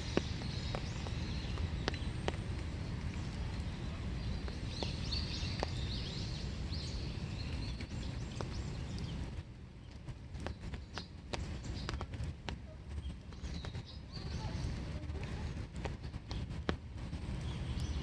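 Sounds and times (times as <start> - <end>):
bird chirping: 0.0 - 16.6, 17.3 - 18.0
raindrops tapping: 0.0 - 18.0
steady rain: 0.0 - 18.0.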